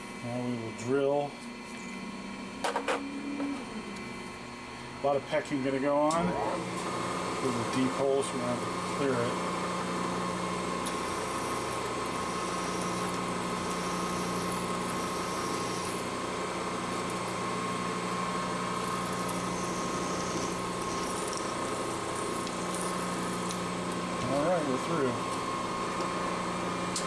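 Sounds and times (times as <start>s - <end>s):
milling machine spindle humming: 0.0s - 27.0s.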